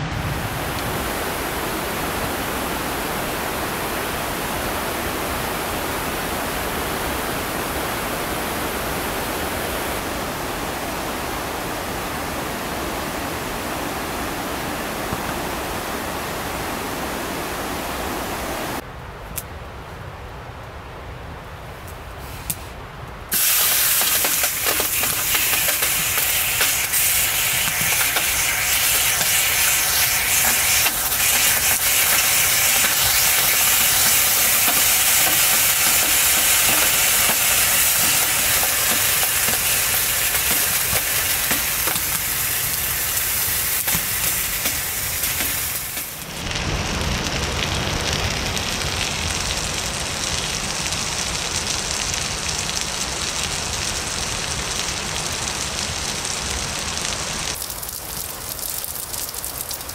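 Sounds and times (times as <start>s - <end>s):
loud steady hiss: 0.0s - 18.9s, 22.1s - 59.0s.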